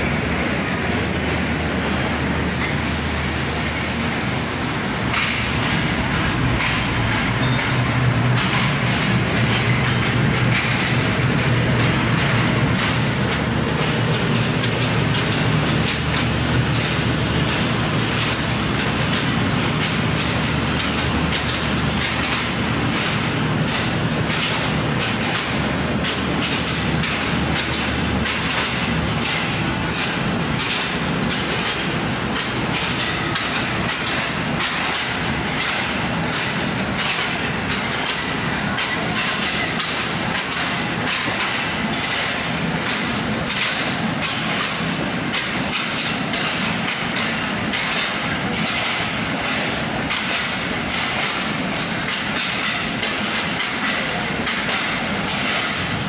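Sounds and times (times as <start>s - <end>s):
train coach rumble and rush: 0.0s - 56.0s
wheels clicking over rail joints: 5.0s - 56.0s.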